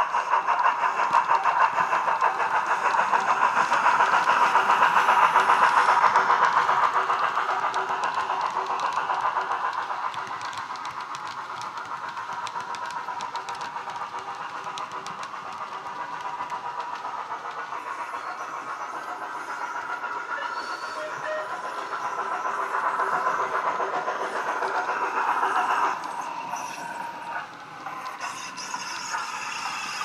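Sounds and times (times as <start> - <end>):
model train running on track: 0.0 - 30.0
steam locomotive sound from speaker: 0.0 - 30.0.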